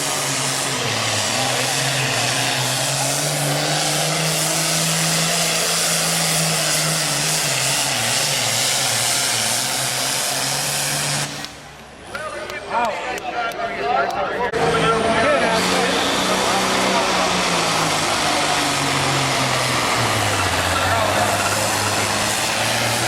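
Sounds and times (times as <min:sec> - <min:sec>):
tractor diesel engine under load: 0:00.0 - 0:12.9, 0:13.8 - 0:23.0.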